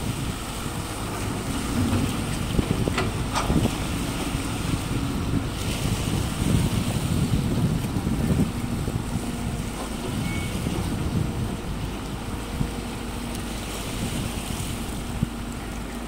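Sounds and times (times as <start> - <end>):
excavator diesel engine rumbling: 0.0 - 16.0
wind noise on microphone: 0.0 - 16.0.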